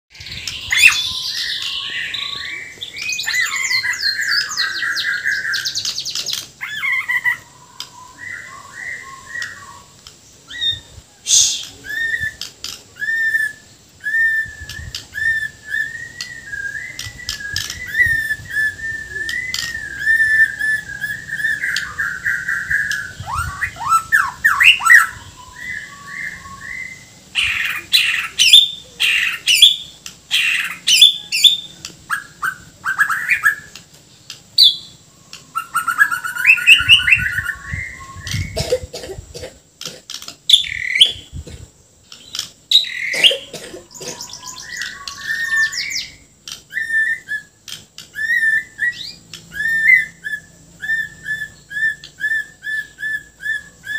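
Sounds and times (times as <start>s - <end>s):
bird singing varied song: 0.1s - 53.9s.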